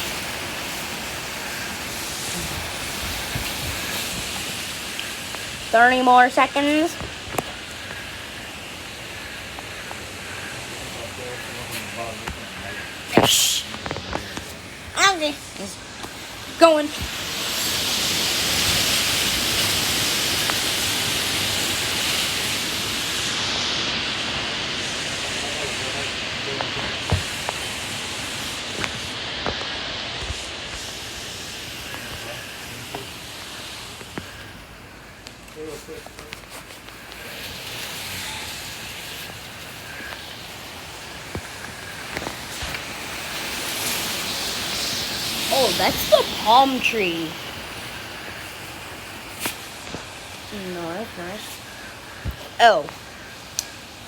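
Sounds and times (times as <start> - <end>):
wind and rain hiss: 0.0 - 54.0.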